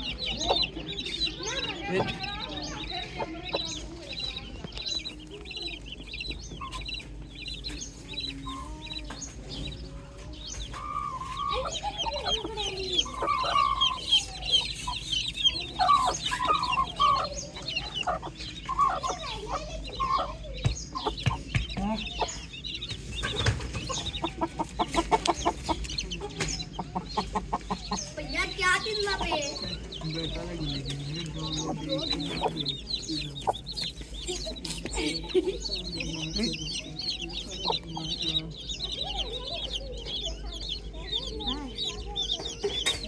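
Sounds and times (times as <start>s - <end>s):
chicks peeping: 0.0s - 43.0s
hen clucking: 0.0s - 43.0s.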